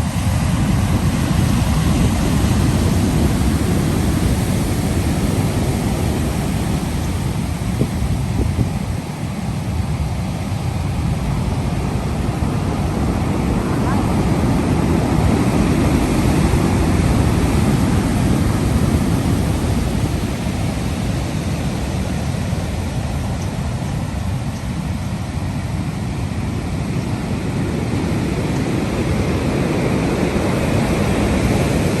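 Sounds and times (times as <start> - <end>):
ocean waves rushing: 0.0 - 32.0.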